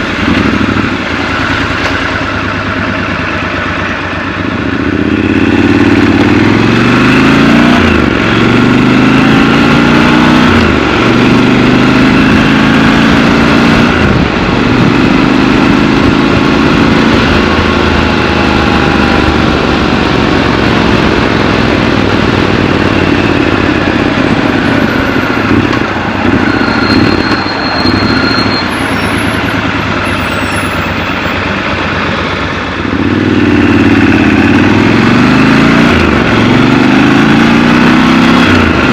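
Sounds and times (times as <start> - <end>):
motorcycle engine accelerating through gears: 0.0 - 38.9.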